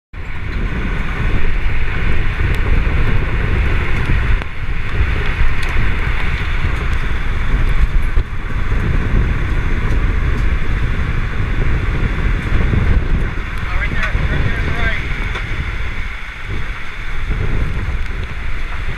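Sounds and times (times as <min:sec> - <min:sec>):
tornado winds roaring: 0:00.1 - 0:18.9.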